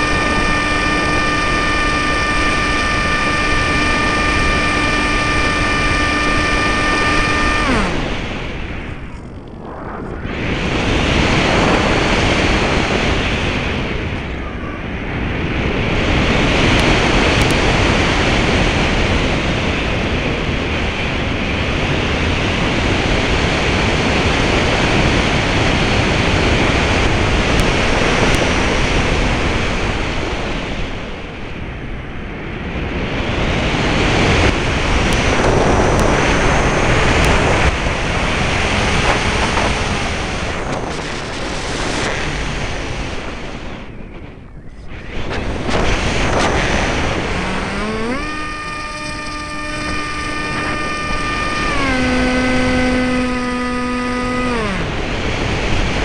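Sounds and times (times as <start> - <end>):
model plane propeller noise: 0.0 - 56.0
wind buffeting microphone: 0.0 - 56.0.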